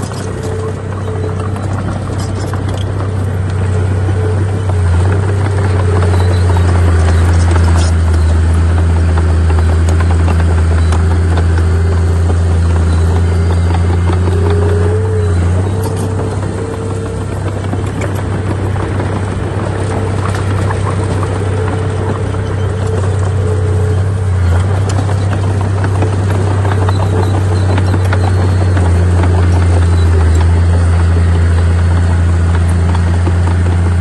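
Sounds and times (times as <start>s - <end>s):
heavy diesel engine drone: 0.0s - 34.0s.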